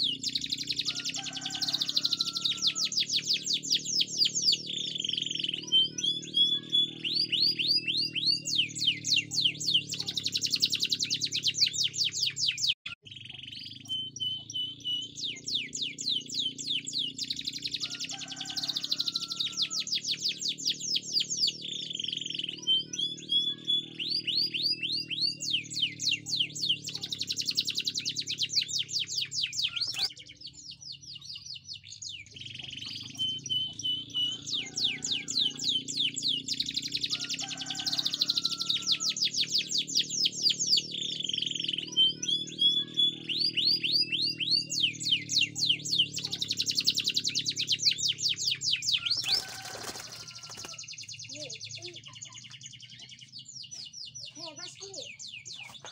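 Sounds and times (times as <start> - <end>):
canary singing trills: 0.0 - 55.9.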